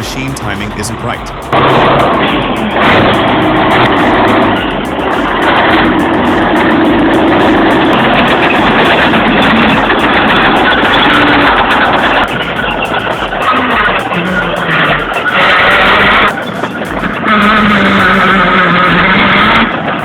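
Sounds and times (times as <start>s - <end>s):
heavy diesel engines running hard: 0.0s - 20.0s.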